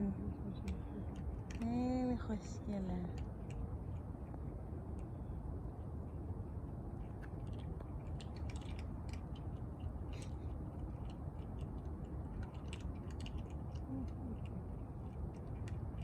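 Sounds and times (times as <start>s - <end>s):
low outdoor rumble: 0.0s - 16.0s
cats chewing and crunching: 0.1s - 16.0s.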